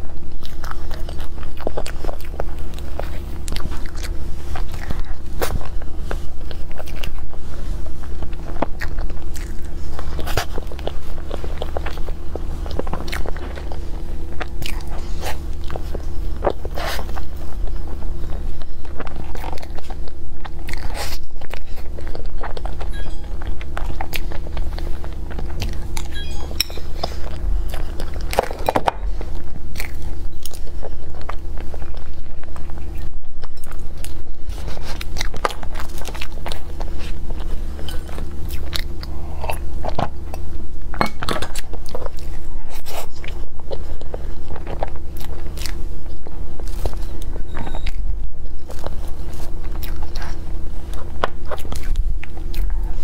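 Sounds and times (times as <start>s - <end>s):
low background hum: 0.0s - 53.0s
wet chewing and lip smacks: 0.0s - 53.0s.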